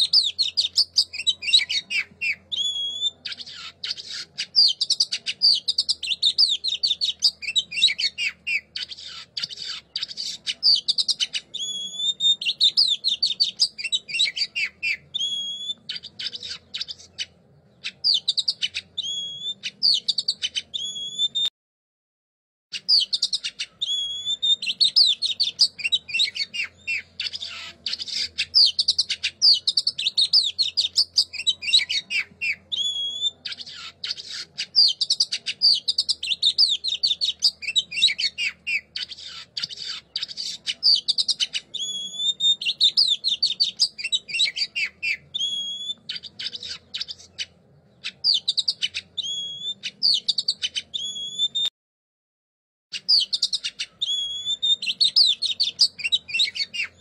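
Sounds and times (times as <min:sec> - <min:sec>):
songbird singing: 0:00.0 - 0:21.5, 0:22.7 - 0:51.7, 0:52.9 - 0:57.0.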